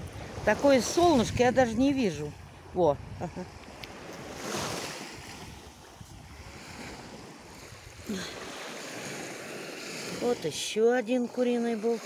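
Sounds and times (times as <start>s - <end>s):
wind on microphone: 0.0s - 10.4s
waves washing onto sandy shore: 0.0s - 12.0s.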